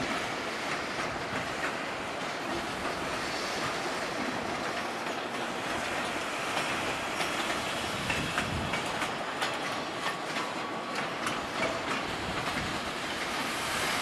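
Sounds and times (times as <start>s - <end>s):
train wheels clicking over rail joints: 0.0s - 14.0s.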